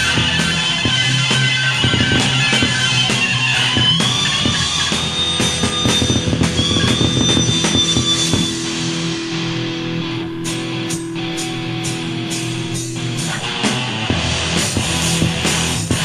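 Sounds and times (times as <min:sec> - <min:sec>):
electric guitar bending high notes: 0:00.0 - 0:16.0
rock band playing instrumental: 0:00.0 - 0:16.0.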